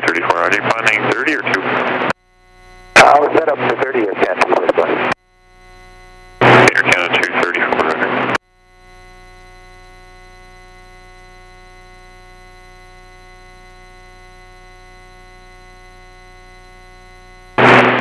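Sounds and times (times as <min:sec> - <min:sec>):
aircraft cockpit hum: 0:00.0 - 0:18.0.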